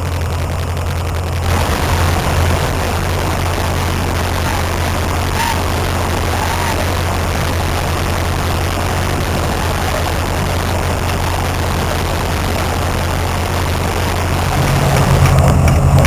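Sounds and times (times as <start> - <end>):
heavy engine running at low revs: 0.0 - 16.0.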